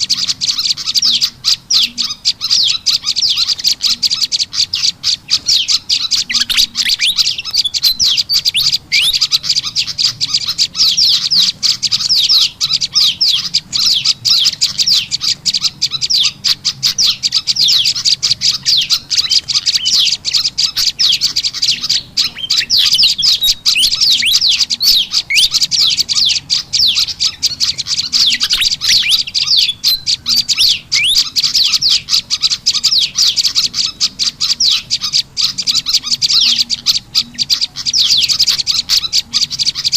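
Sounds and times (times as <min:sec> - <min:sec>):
fantails chattering: 0:00.0 - 0:39.9
songbird calls: 0:00.0 - 0:39.9.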